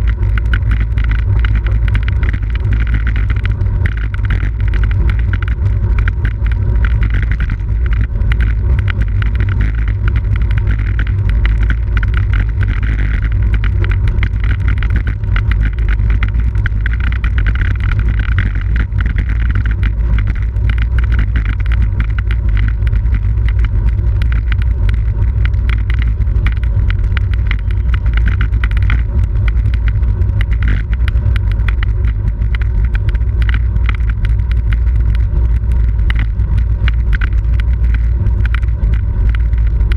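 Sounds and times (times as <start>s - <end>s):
bike rattling on pavement: 0.0s - 39.9s
wind rushing over microphone: 0.0s - 39.9s.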